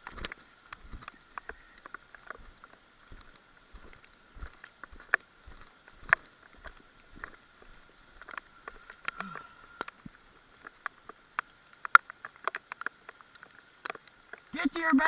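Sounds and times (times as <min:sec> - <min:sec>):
footsteps outdoors: 0:00.0 - 0:15.0.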